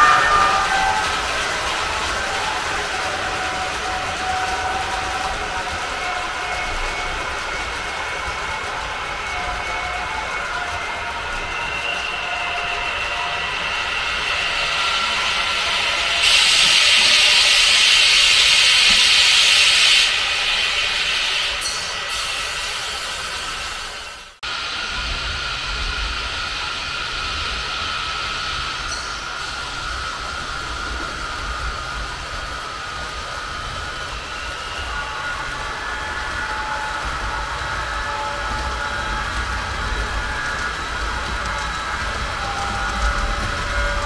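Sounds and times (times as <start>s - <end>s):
high hiss: 0.0s - 44.0s
model train rolling on track: 0.0s - 44.0s.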